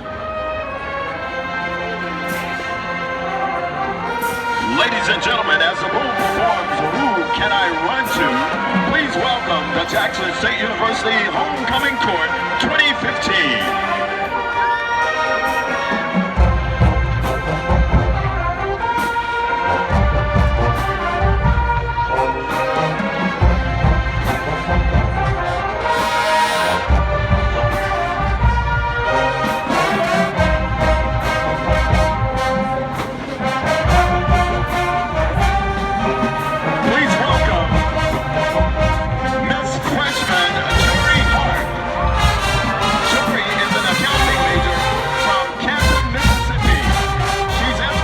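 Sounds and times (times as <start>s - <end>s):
deep low brass notes: 0.0s - 48.0s
marching band brass chords: 0.0s - 48.0s.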